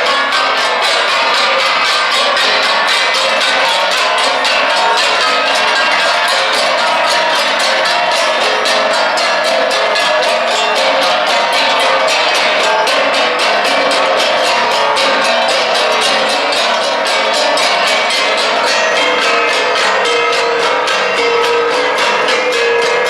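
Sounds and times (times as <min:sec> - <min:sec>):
bronze gongs beaten in rhythm: 0:00.0 - 0:23.0.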